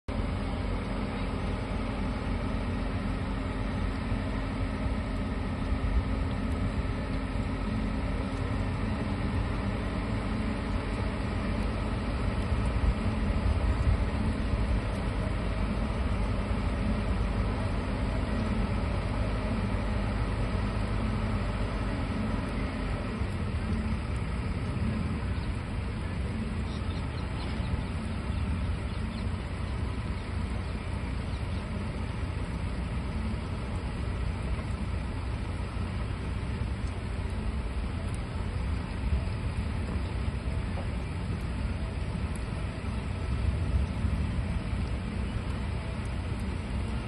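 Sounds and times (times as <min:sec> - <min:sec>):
heavy diesel engines running: 0:00.1 - 0:47.0.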